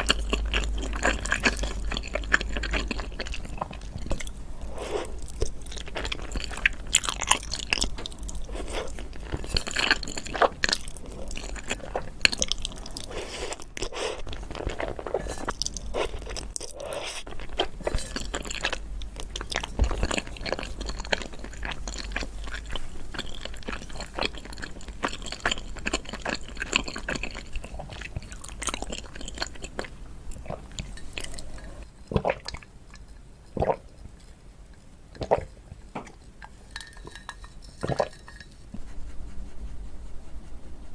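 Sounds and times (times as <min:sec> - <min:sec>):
chewing crunchy food: 0:00.0 - 0:34.1, 0:35.1 - 0:38.9.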